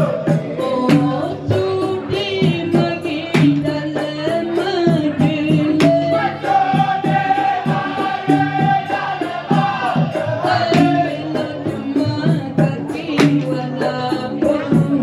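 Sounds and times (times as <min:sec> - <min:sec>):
percussion beat: 0:00.0 - 0:15.0
voices singing wavering melody: 0:00.0 - 0:15.0.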